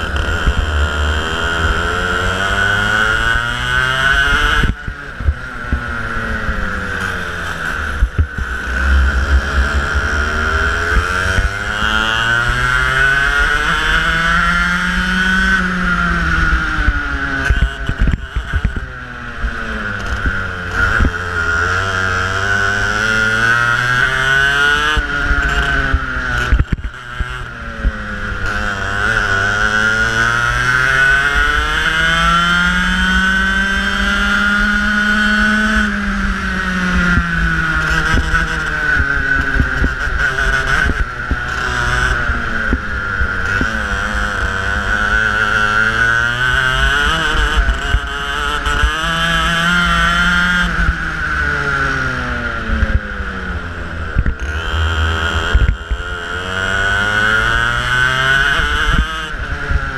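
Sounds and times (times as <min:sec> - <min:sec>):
racing kart engine: 0:00.0 - 0:59.9.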